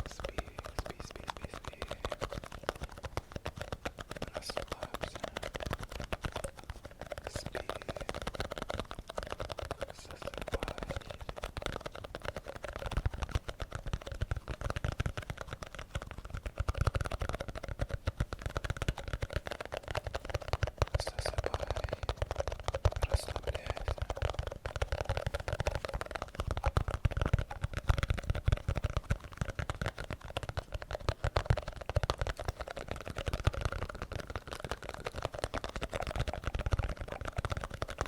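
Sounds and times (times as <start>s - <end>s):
fast tapping on object: 0.0s - 38.0s.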